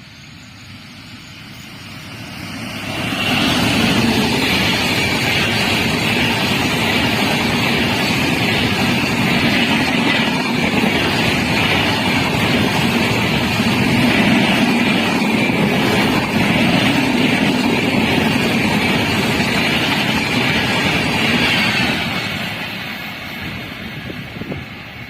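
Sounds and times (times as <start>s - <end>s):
train wheels roaring on rails: 0.0s - 25.0s.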